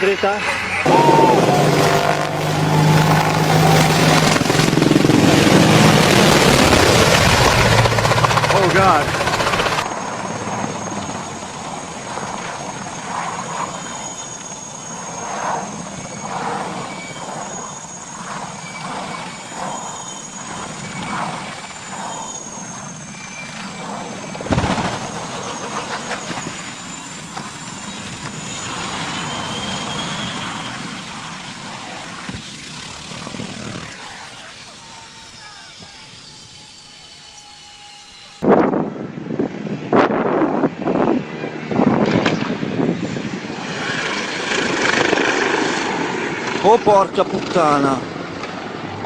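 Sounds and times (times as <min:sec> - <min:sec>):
helicopter running: 0:00.0 - 0:49.0.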